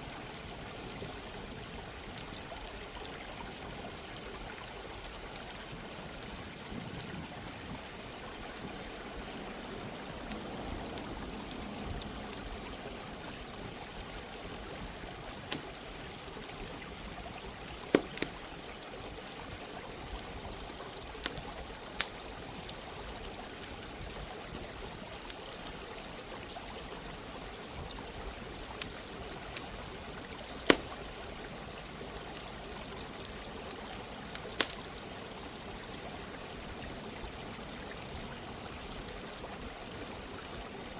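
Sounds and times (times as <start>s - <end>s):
campfire crackling: 0.0s - 40.9s
running water: 0.0s - 40.9s.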